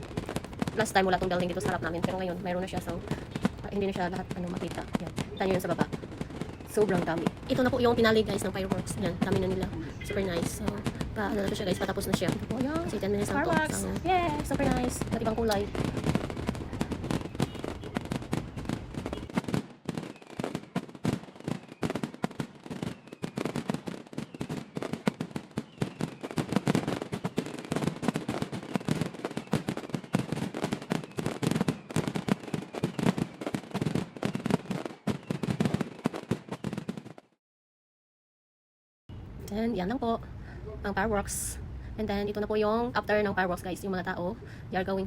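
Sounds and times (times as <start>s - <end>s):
fireworks bangs and crackling: 0.0s - 37.4s.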